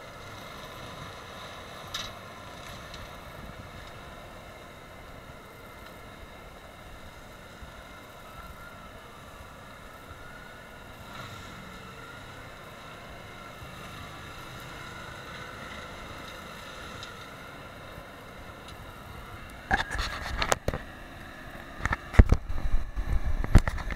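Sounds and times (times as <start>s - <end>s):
tractor and mulcher grinding: 0.0s - 23.9s
wavering whine: 0.0s - 23.9s.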